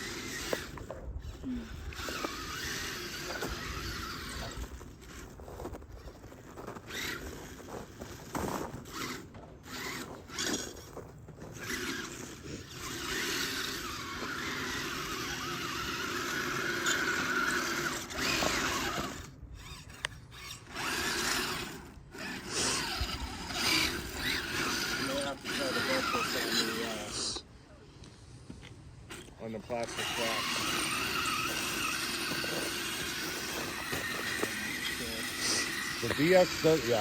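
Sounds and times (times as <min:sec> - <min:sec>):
electric motor and gears whining: 0:00.0 - 0:37.0.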